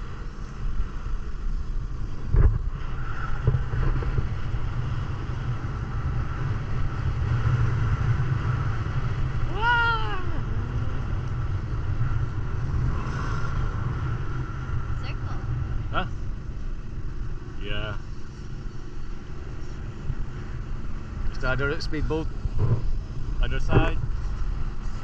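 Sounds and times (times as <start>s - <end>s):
motorboat engine: 0.0s - 25.0s
wind rumble: 0.0s - 25.0s.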